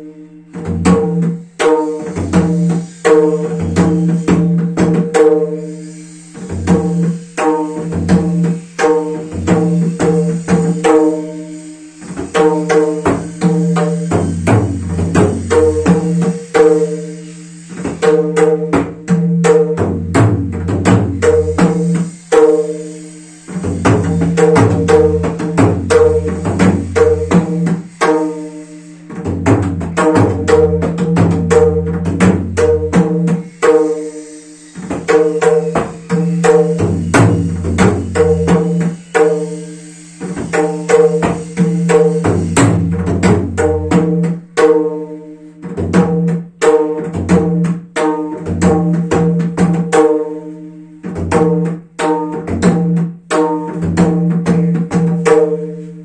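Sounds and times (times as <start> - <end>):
barrel drum played by hand: 0.0 - 56.0.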